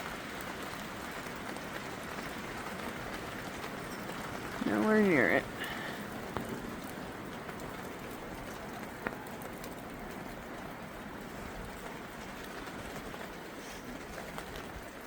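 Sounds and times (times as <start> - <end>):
rain and wind hissing: 0.0 - 15.0.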